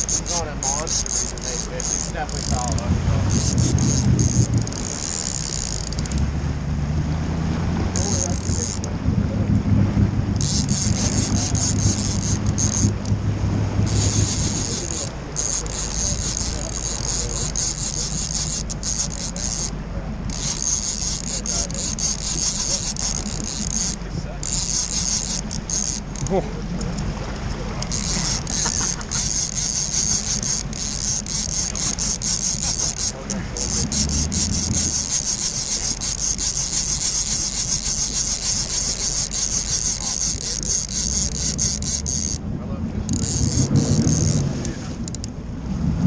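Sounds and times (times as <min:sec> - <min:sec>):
fishing reel drag rasping: 0:00.0 - 0:06.3, 0:07.9 - 0:09.0, 0:10.3 - 0:13.2, 0:13.8 - 0:42.4, 0:43.0 - 0:45.4
boat engine running low: 0:00.0 - 0:46.0.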